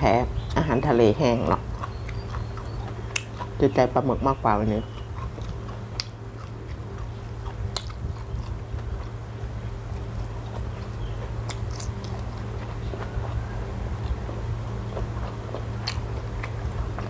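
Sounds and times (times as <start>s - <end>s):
steady low hum: 0.0s - 17.0s
person chewing food: 1.5s - 3.8s, 4.8s - 17.0s.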